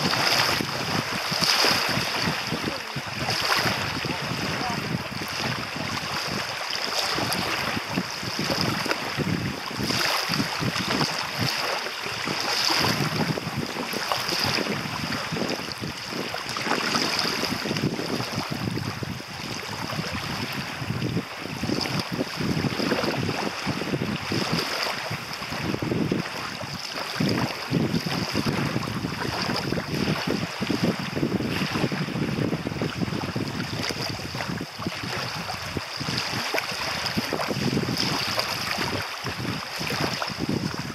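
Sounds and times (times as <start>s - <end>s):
waves lapping on sandy shore: 0.0s - 40.9s
wind rumbling on microphone: 0.0s - 40.9s.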